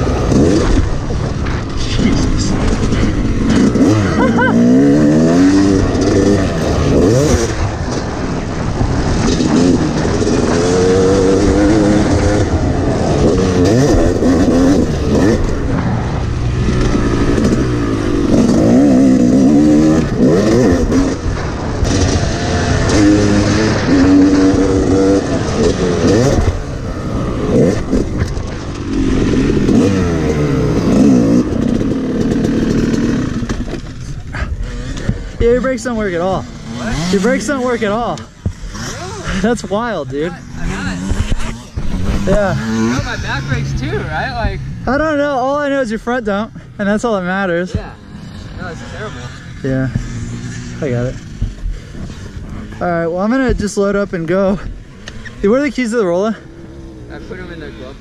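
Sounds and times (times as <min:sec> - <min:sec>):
two-stroke dirt bike engine revving: 0:00.0 - 0:58.0.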